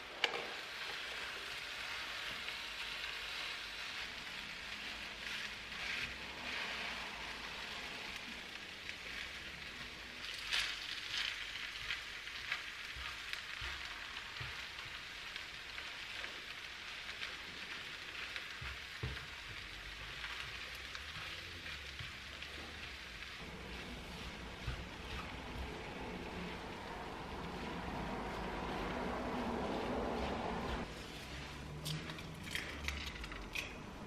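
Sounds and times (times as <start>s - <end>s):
rice sizzling in a frying pan: 0.0s - 34.0s
spatula scraping a pan: 0.2s - 33.0s.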